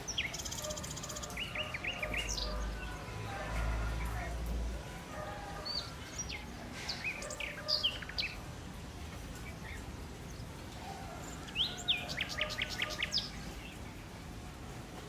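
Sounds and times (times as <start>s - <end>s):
songbirds chirping and whistling: 0.0s - 14.7s
low background noise: 0.0s - 15.0s.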